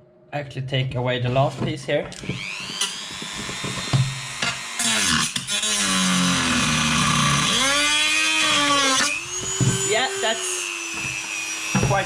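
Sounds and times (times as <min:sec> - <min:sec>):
power tool cutting wood: 0:01.3 - 0:12.0.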